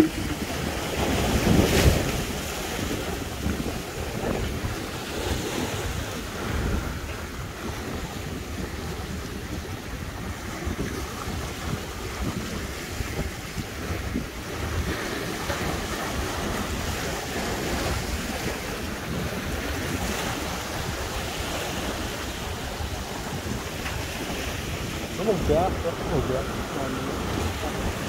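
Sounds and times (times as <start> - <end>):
waves breaking over rocks: 0.0 - 28.0
wind rumbling on microphone: 0.0 - 28.0.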